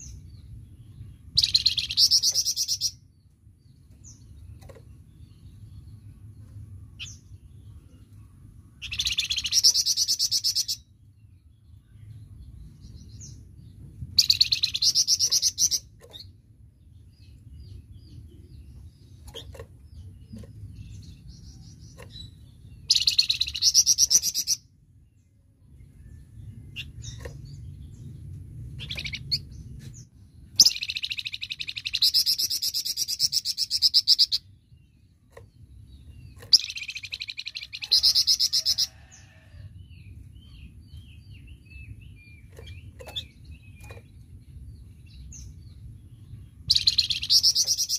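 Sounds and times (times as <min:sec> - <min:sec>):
soft bird chirps: 0:00.0 - 0:47.9.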